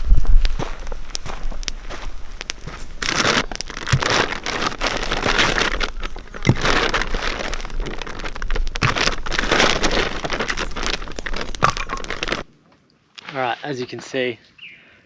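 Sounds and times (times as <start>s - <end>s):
campfire crackling and popping: 0.0s - 12.5s.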